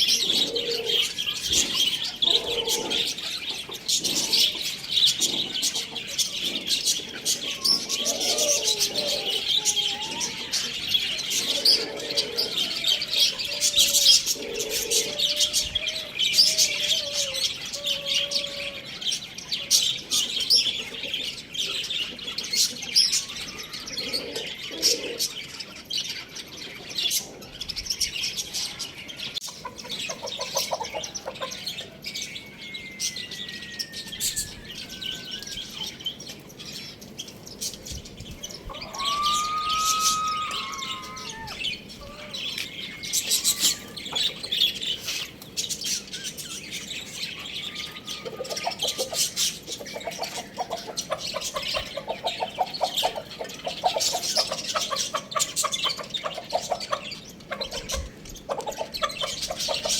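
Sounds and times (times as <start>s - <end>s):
small birds chirping and chattering: 0.0s - 59.9s.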